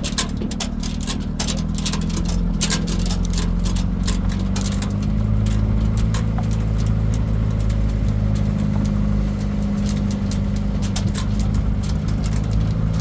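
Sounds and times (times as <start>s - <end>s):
light rattling clicks: 0.0s - 13.0s
vehicle engine running: 0.0s - 13.0s.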